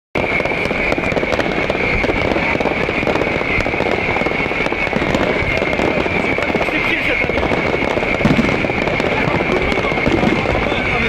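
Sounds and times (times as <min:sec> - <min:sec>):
fireworks crackling and popping: 0:00.2 - 0:11.0.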